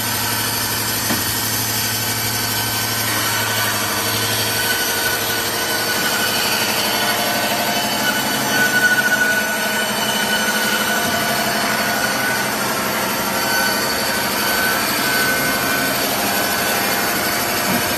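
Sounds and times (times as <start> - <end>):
band saw sawing a plank: 0.0 - 17.9.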